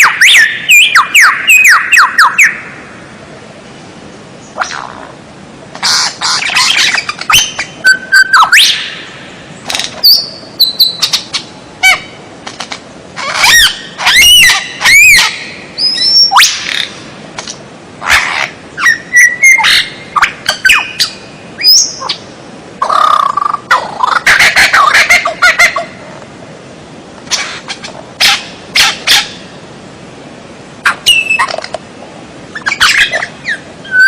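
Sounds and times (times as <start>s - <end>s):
songbird calling: 0.0s - 3.0s, 3.6s - 5.2s, 5.8s - 12.3s, 13.2s - 26.0s, 27.3s - 29.6s, 30.8s - 31.7s, 32.5s - 34.0s.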